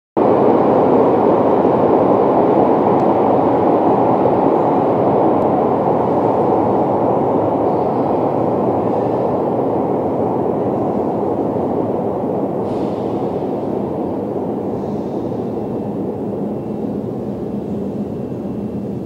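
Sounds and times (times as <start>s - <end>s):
low rumbling in station: 0.2s - 19.0s.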